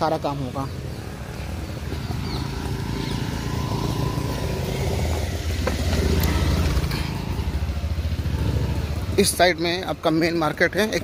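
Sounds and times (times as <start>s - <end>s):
engine rumbling close by: 0.0s - 11.0s
motorcycle and rickshaw traffic: 0.0s - 11.0s.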